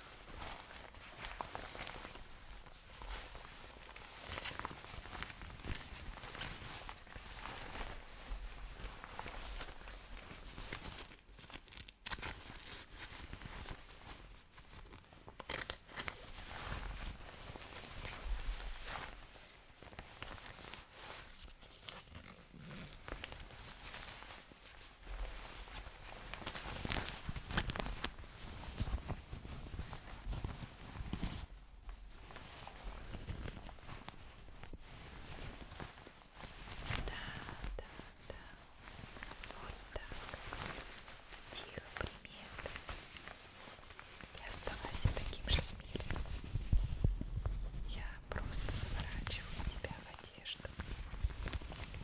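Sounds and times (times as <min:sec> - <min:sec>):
cloth rustling and crumpling: 0:00.0 - 0:52.0
sharp fabric crinkles: 0:00.0 - 0:52.0.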